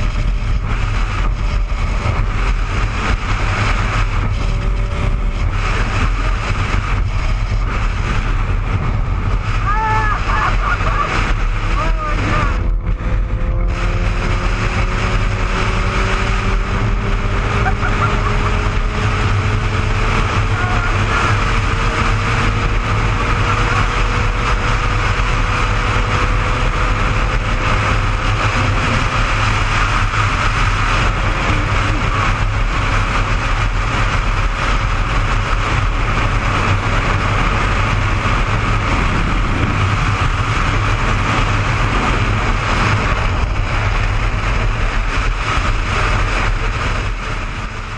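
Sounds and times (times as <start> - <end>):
motorcycle engine running: 0.0 - 47.9
wind rush over microphone: 0.0 - 47.9.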